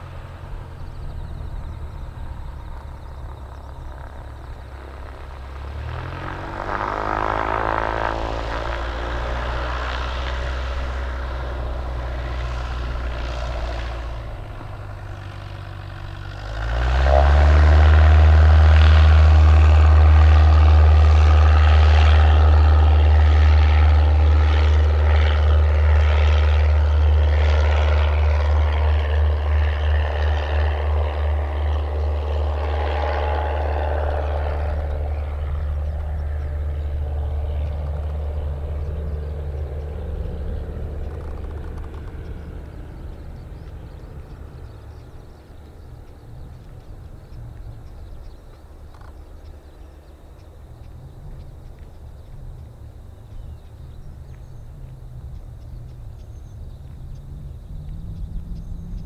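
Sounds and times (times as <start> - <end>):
propeller plane engine: 0.0 - 59.0.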